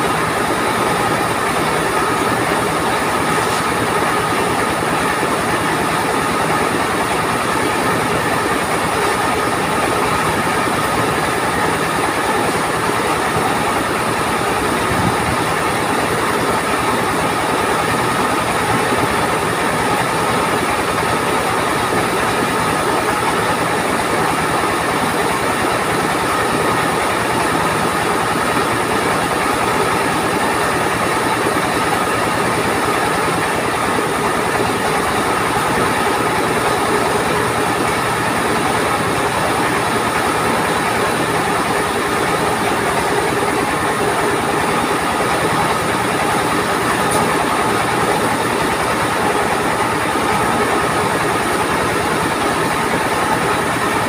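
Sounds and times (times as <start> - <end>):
rice mill machinery running: 0.0 - 54.0.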